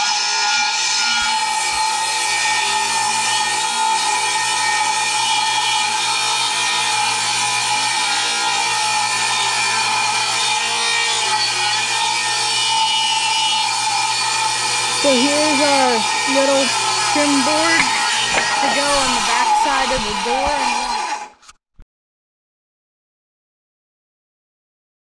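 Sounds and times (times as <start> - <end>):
radial arm saw cutting wood: 0.0 - 21.6.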